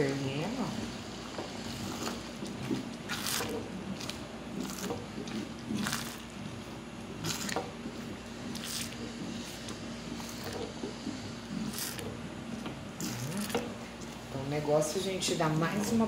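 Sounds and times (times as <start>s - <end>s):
spoon stirring thick boiling jam: 0.0s - 16.0s.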